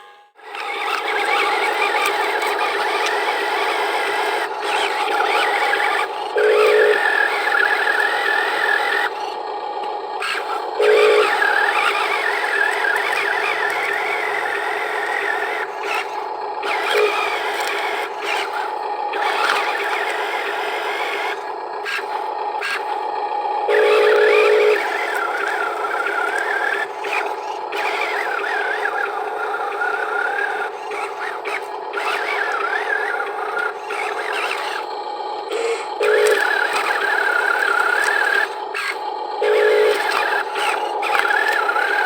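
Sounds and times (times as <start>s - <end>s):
electric motors whining: 0.0s - 42.0s
loud motor buzzing: 0.0s - 42.0s.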